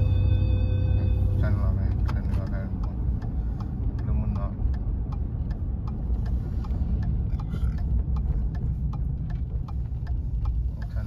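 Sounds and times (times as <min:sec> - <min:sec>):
car road and engine rumble: 0:00.0 - 0:11.0
turn signal ticking: 0:00.0 - 0:11.0.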